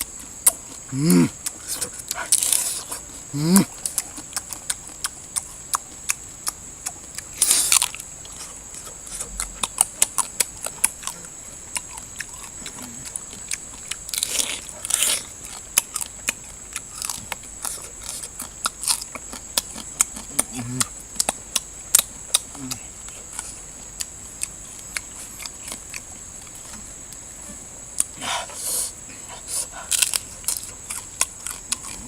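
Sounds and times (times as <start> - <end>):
person chewing meat: 0.0 - 26.1, 29.4 - 32.0.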